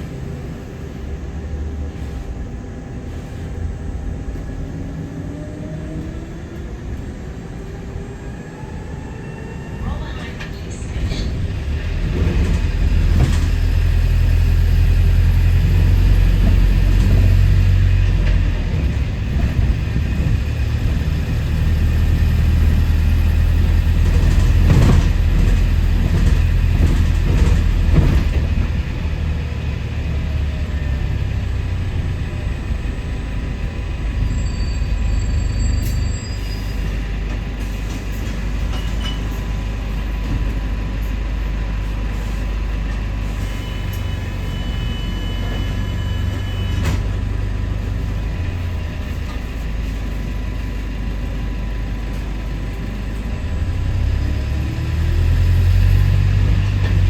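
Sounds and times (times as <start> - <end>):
bus engine low drone: 0.0 - 57.0
bus body rattling: 9.8 - 57.0.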